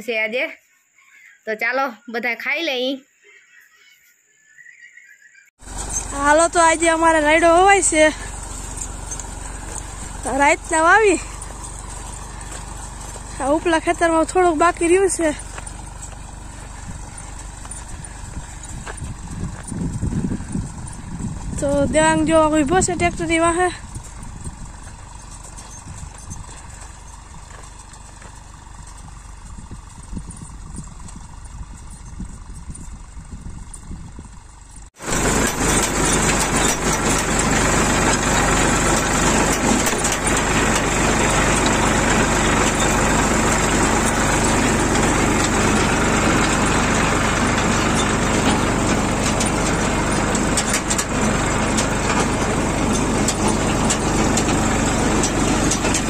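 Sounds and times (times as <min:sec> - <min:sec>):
seed drill running: 0:05.6 - 0:21.7, 0:23.0 - 0:56.0
tractor engine running: 0:05.6 - 0:56.0.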